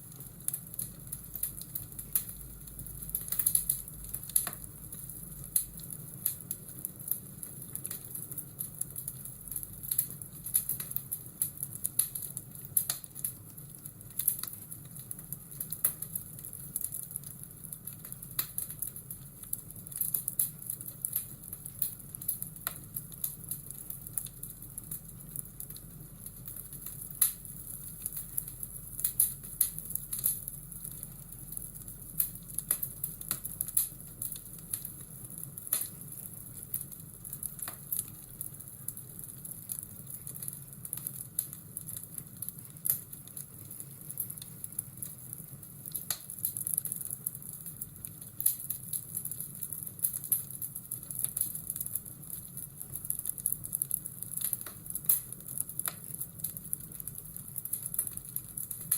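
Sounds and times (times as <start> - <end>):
steady hiss and low hum: 0.0 - 58.9
wood fire crackling and popping: 0.0 - 58.9.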